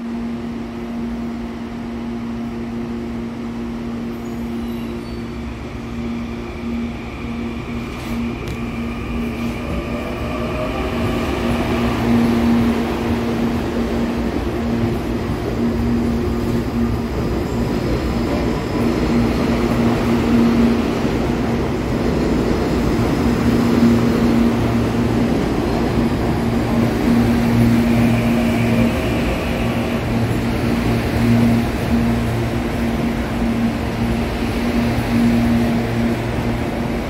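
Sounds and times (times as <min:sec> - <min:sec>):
train wheels rumbling and clattering: 0:02.5 - 0:37.0.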